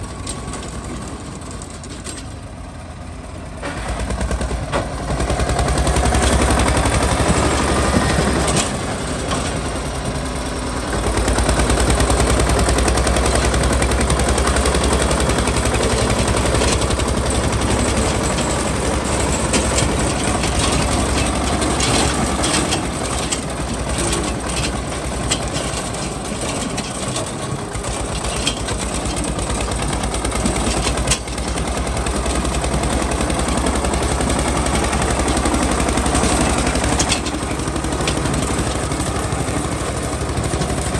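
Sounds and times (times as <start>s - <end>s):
tractor diesel engine clattering: 0.0s - 40.9s.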